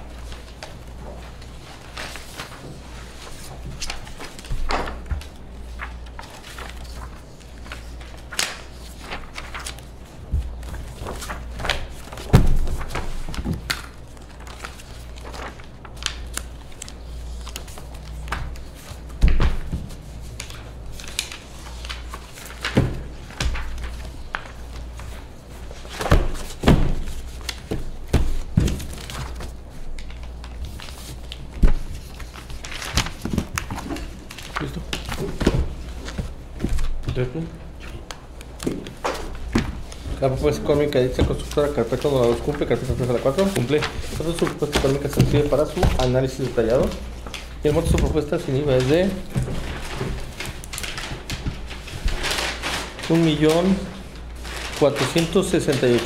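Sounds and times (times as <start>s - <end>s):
paper rustling: 0.0s - 56.0s.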